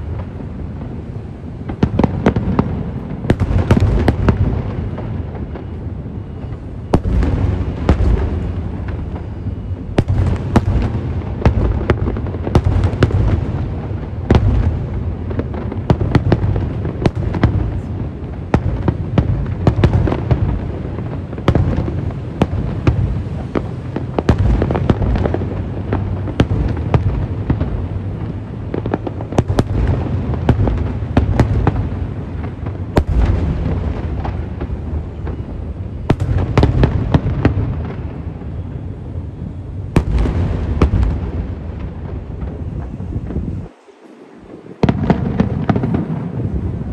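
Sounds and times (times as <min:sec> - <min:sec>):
fireworks bangs and cracks: 0:00.0 - 0:46.9
low rumble of booms: 0:00.0 - 0:46.9.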